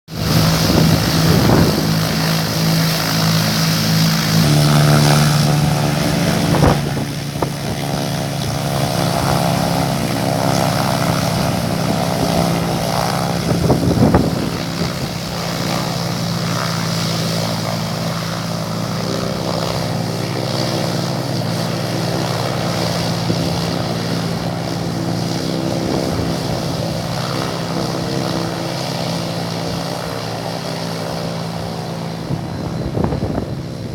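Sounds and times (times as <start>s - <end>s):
twin propeller engines droning: 0.1s - 33.9s.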